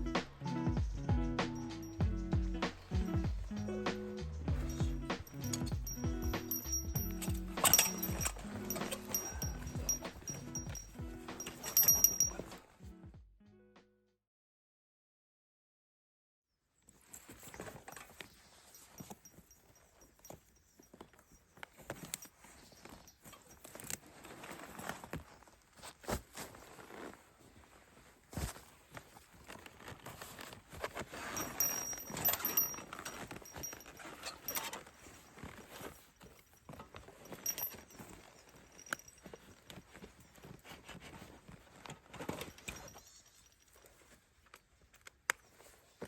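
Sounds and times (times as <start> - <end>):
rustling: 4.6 - 12.8, 16.9 - 46.0.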